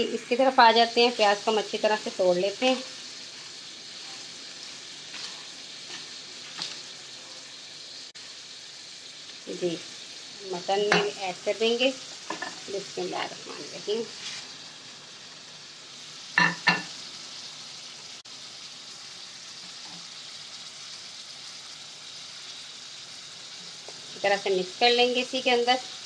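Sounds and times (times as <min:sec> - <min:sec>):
tomatoes sizzling in oil: 0:00.0 - 0:26.0.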